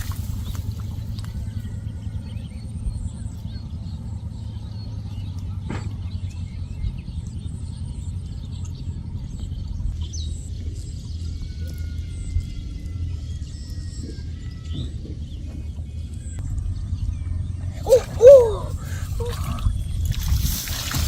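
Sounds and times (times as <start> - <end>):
birds chirping: 0.0 - 21.0
low rumble: 0.0 - 21.0.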